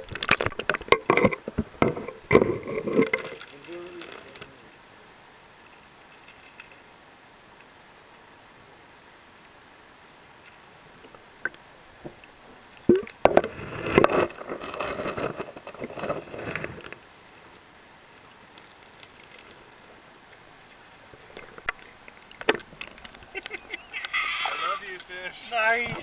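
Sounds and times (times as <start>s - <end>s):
faint hiss: 0.0s - 26.0s.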